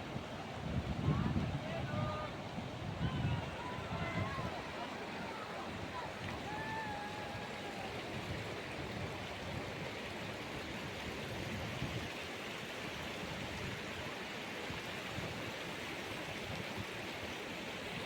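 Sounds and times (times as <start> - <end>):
rushing whitewater: 0.0 - 18.0.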